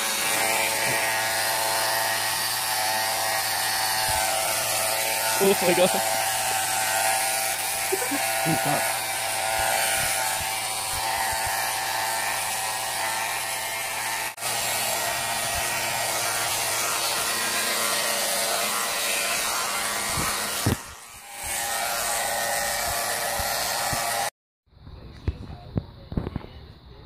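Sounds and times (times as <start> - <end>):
electric hair clippers buzzing: 0.0 - 24.3.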